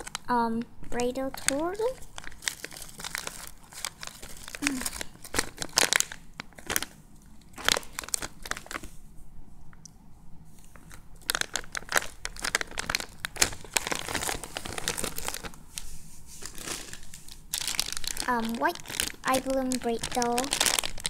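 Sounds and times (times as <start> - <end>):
plastic packaging crinkling: 0.0 - 9.0, 10.7 - 21.0.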